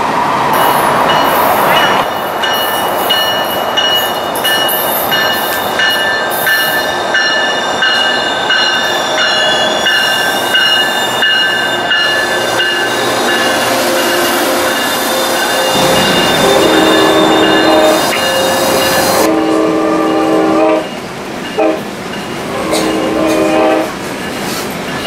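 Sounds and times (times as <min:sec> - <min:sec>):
train coaches rumbling: 0:00.0 - 0:25.0
train brakes squealing: 0:00.6 - 0:25.0.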